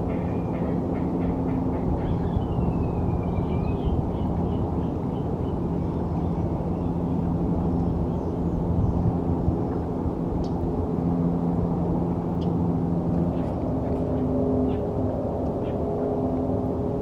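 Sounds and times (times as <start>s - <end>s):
city traffic rumble: 0.0s - 17.0s
constant hum: 0.0s - 17.0s.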